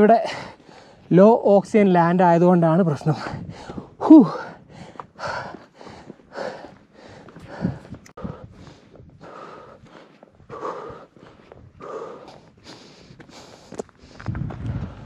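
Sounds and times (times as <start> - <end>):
person breathing hard: 0.2 - 1.1, 3.2 - 15.0.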